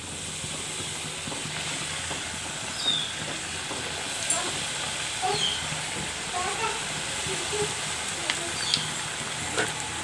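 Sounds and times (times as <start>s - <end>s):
oil sizzling while deep-frying: 0.0s - 10.0s.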